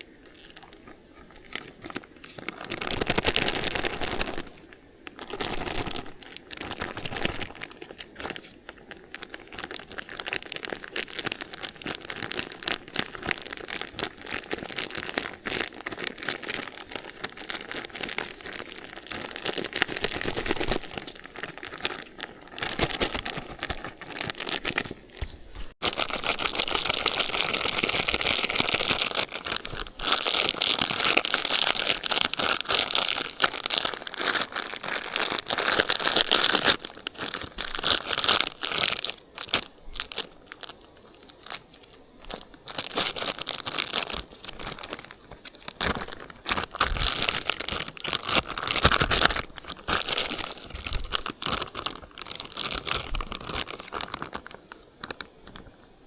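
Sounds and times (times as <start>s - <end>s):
packaging crinkling and rustling: 0.0s - 56.0s.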